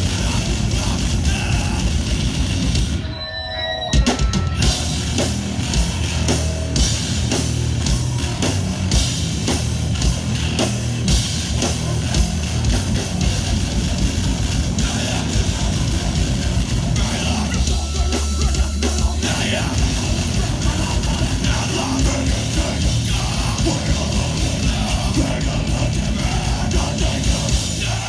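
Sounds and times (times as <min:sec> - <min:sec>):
fast pounding drums: 0:00.0 - 0:03.0, 0:03.9 - 0:28.0
distorted guitars and bass: 0:00.0 - 0:28.0.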